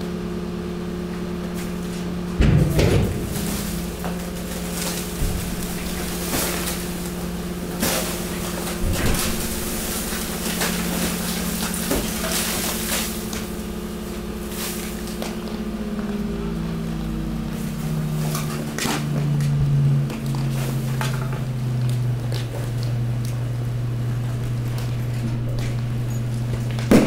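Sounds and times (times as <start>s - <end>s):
hydraulic pump humming: 0.0s - 27.0s
garbage bags crackling and knocking: 1.4s - 27.0s.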